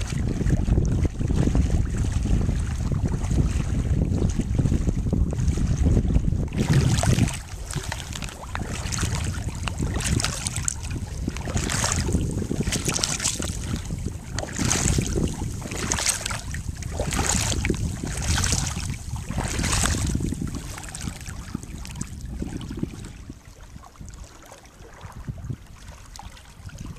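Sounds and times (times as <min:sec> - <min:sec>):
feet wading and splashing: 0:00.0 - 0:26.9
wind rumble on microphone: 0:00.0 - 0:26.9.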